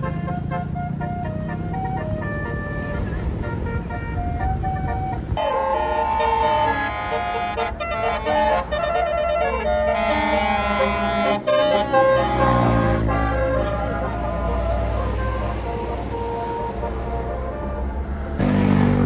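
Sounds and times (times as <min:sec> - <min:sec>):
bus engine rumble: 0:00.0 - 0:19.0
multi-note air horn melody: 0:00.0 - 0:19.0.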